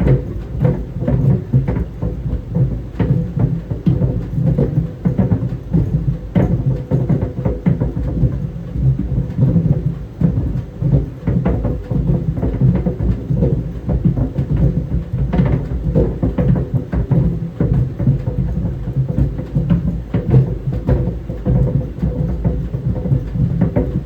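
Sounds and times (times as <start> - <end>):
balls thudding in a dryer: 0.0 - 24.0
dryer drum rumble: 0.0 - 24.0.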